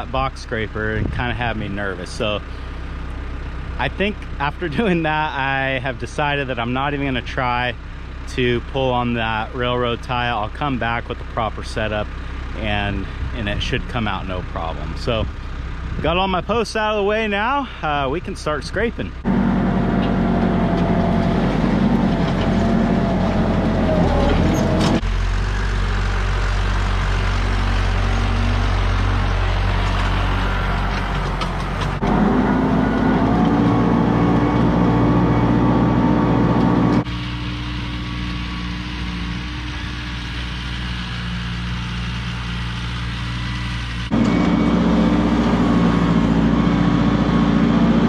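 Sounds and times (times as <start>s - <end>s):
tractor engine running under load: 0.0s - 48.0s.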